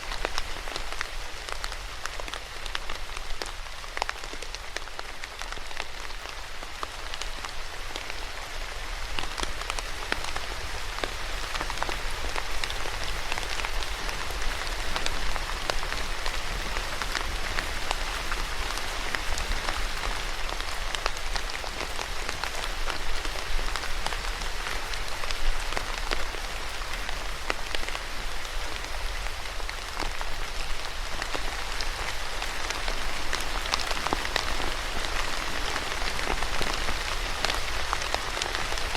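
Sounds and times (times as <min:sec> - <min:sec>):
raindrops ticking on surface: 0:00.0 - 0:38.9
steady rain hiss: 0:00.0 - 0:38.9.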